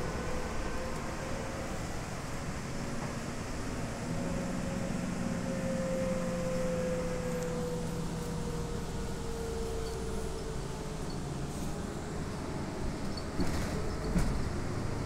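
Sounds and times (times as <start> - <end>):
lower hum: 0.0 - 13.2
bus drive hum: 0.0 - 15.0.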